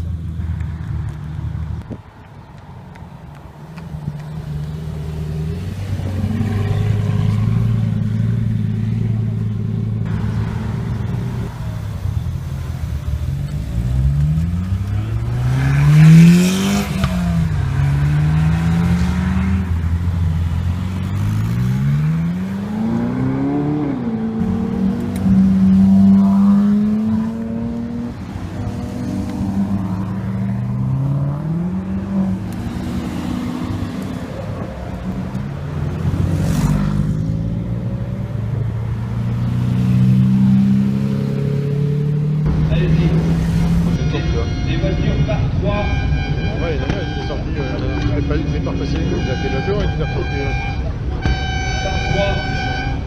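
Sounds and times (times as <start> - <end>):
engine revving: 4.4 - 53.0.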